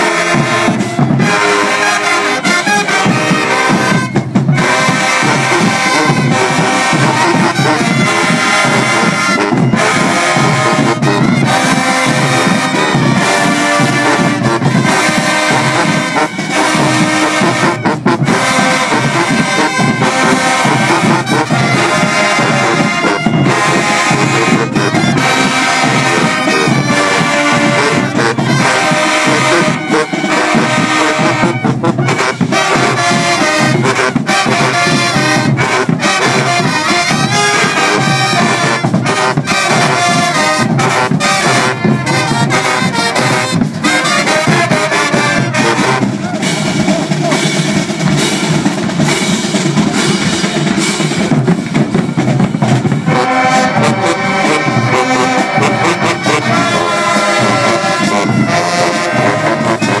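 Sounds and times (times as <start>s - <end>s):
marching band brass music: 0.0s - 60.0s.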